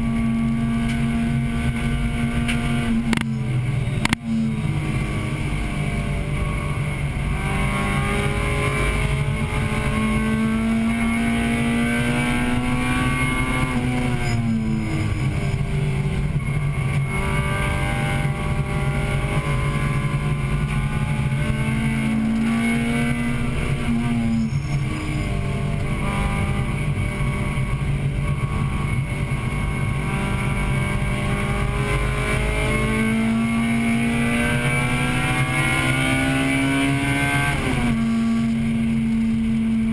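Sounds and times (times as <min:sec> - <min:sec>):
road and wind noise: 0:00.0 - 0:39.9
car engine revving from inside: 0:04.0 - 0:39.9.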